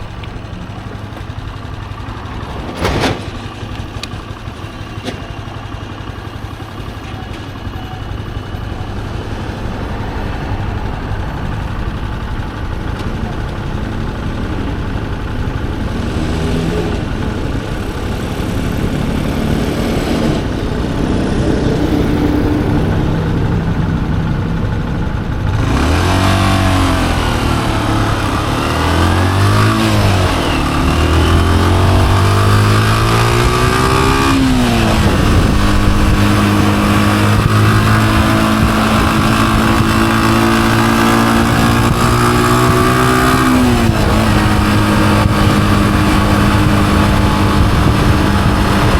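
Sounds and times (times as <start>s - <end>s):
motorcycle engine accelerating through gears: 0.0s - 48.9s.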